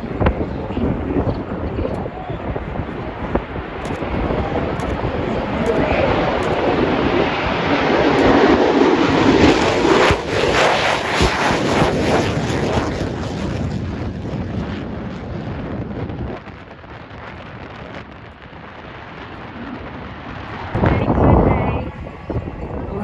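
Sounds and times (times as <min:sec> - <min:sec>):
jet engine rushing noise: 0:00.0 - 0:22.6.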